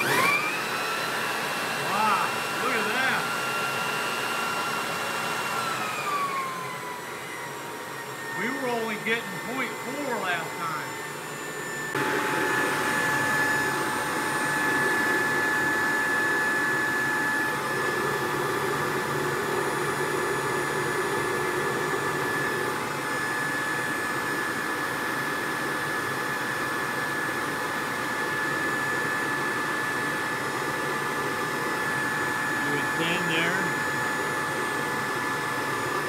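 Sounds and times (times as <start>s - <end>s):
electric blower rushing air: 0.0s - 36.0s.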